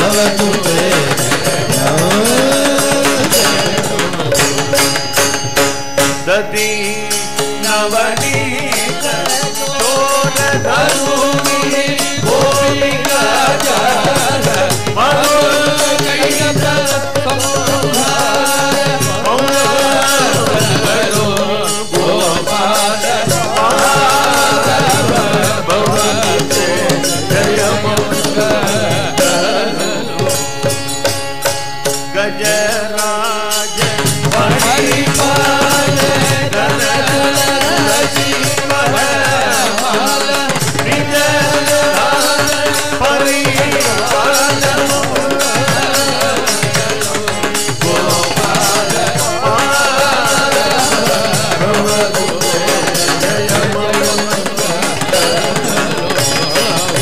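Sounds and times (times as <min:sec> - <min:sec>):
hand drums playing rhythm: 0:00.0 - 0:06.8, 0:07.4 - 0:32.7, 0:33.6 - 0:57.0
harmonium: 0:00.0 - 0:57.0
voices singing devotional music: 0:00.0 - 0:57.0.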